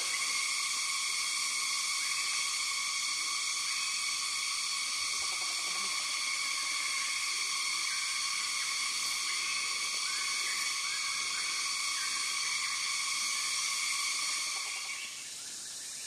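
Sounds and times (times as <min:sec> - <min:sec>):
insect chorus droning: 0:00.0 - 0:16.0.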